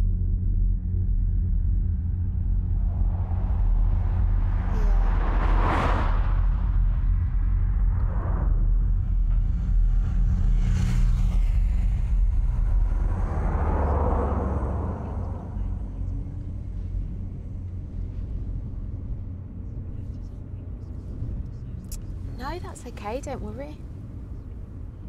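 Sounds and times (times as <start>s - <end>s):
car engine idling rumble: 0.0s - 25.0s
cars passing outside: 1.0s - 25.0s.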